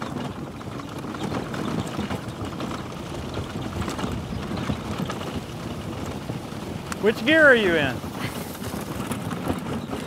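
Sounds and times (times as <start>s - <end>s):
electric vehicle rumbling travel noise: 0.0s - 10.0s.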